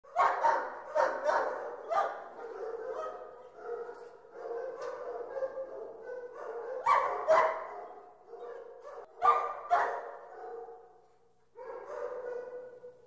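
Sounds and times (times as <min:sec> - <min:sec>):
dogs barking loudly: 0:00.1 - 0:11.0, 0:11.6 - 0:13.0.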